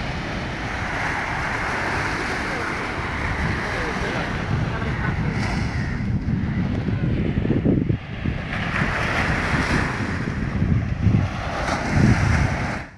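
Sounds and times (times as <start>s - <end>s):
waves breaking on beach: 0.0s - 12.9s
wind buffeting microphone: 0.0s - 12.9s.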